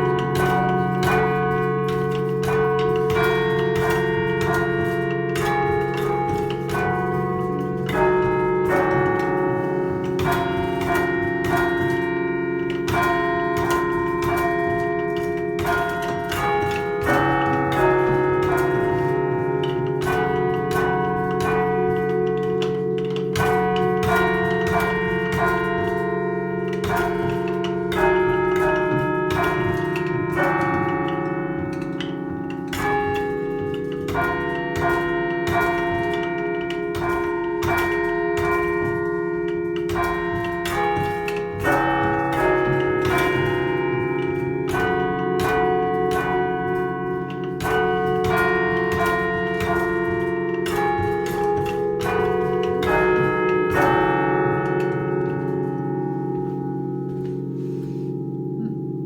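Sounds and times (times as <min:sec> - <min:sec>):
church bells chiming: 0:00.0 - 0:59.0
low bell hum: 0:00.0 - 0:59.0.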